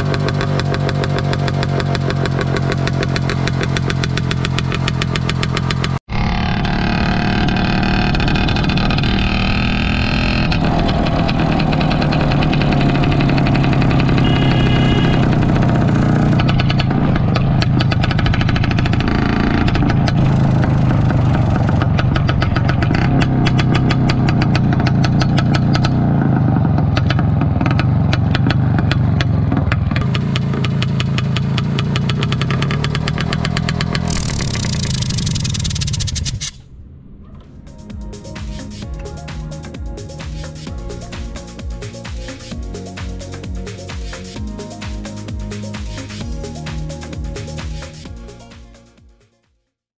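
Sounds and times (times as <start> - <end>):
two-stroke motorcycle engine running: 0.0 - 36.4, 37.7 - 49.2.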